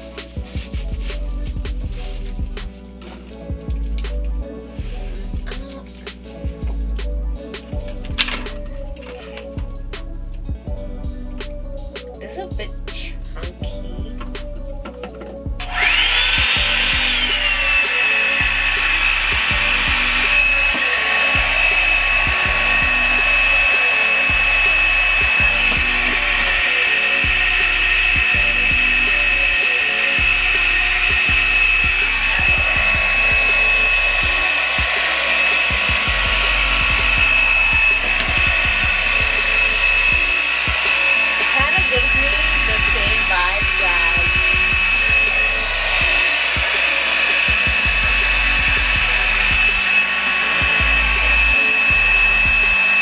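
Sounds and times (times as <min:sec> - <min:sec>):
blow dryer motor whine: 0:00.0 - 0:02.7, 0:03.3 - 0:53.0
background music beat: 0:00.0 - 0:53.0.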